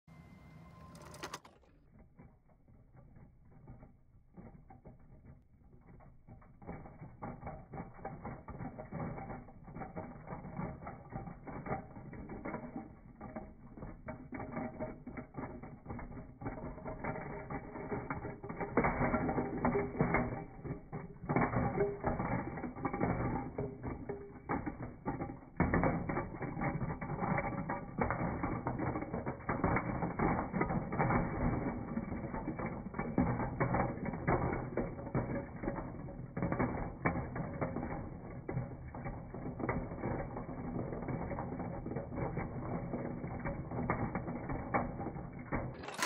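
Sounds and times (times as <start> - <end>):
toy shake table rattling: 0.8 - 1.7, 6.6 - 46.0
plastic blocks rattling: 0.8 - 46.0.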